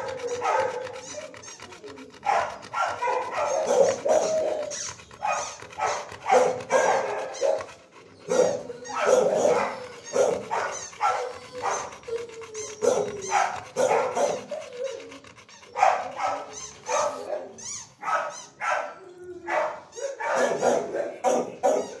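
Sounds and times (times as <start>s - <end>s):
dogs barking: 0.0s - 22.0s.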